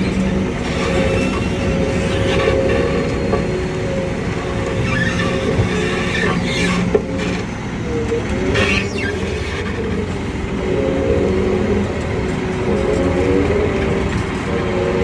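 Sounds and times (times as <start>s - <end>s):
heavy vehicle running under load: 0.0s - 15.0s
mechanical whine: 0.0s - 15.0s.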